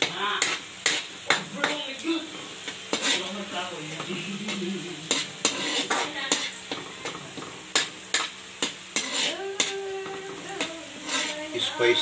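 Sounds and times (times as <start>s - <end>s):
garlic sizzling in hot oil: 0.0s - 12.0s
metal spatula scraping a wok: 0.0s - 12.0s.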